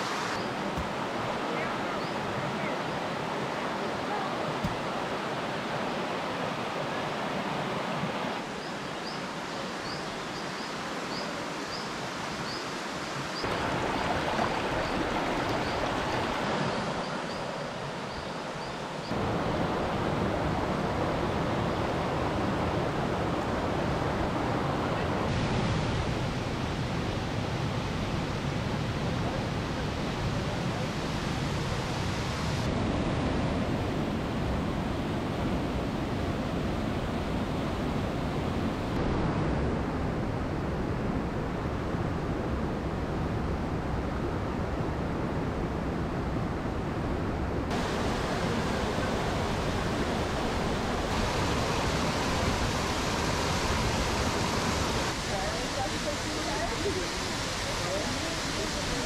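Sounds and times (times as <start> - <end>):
stream rushing over rocks: 0.0 - 39.5, 47.7 - 59.0.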